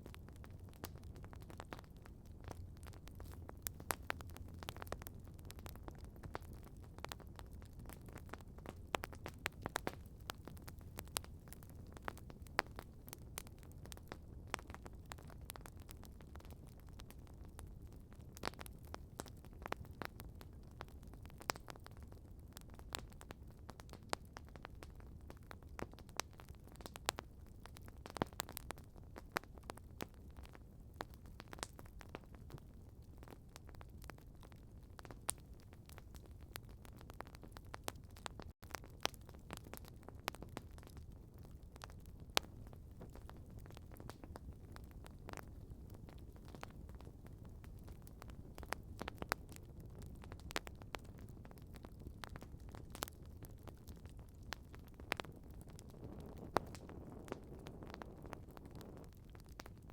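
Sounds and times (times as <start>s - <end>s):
campfire pops and snaps: 0.0s - 17.7s, 18.3s - 59.9s
low rumble of burning: 0.0s - 59.9s.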